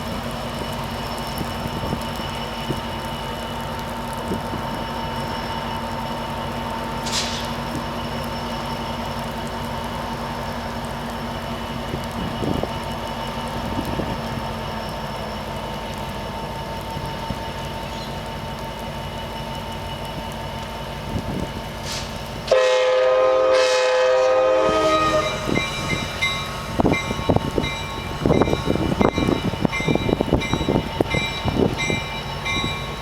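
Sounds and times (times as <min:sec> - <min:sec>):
diesel locomotive humming: 0:00.0 - 0:33.0.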